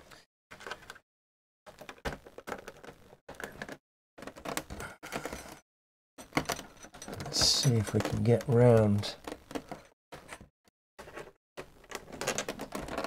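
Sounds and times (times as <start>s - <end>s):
plastic cover clicking and scraping: 1.7s - 5.5s, 6.3s - 13.0s.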